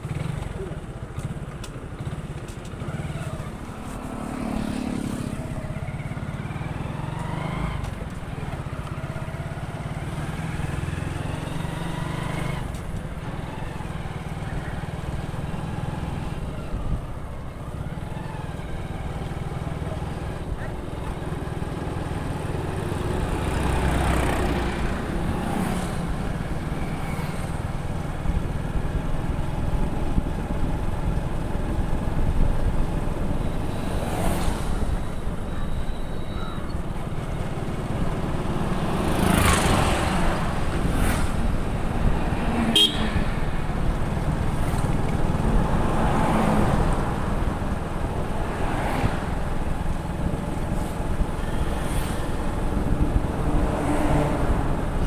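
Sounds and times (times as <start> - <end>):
motorcycle engine rumble: 0.0 - 55.0
vehicles passing: 0.0 - 55.0
wind and road noise: 0.0 - 55.0.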